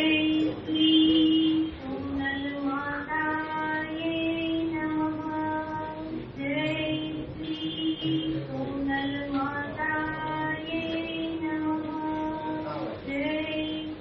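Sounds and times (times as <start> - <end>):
high voice singing a hymn: 0.0 - 14.0.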